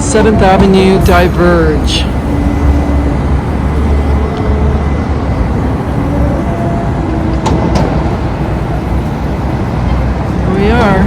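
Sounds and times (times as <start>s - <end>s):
street traffic rumble: 0.0s - 11.0s
wind: 0.0s - 11.0s.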